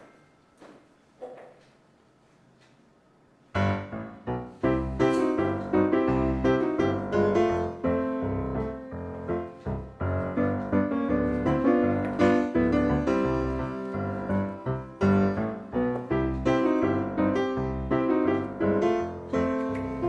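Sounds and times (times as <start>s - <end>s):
piano music: 3.5s - 20.0s.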